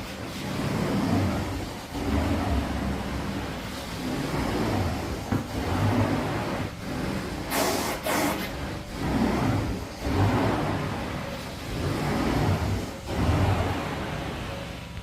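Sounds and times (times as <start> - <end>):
carpet extraction machine droning: 0.0 - 15.0.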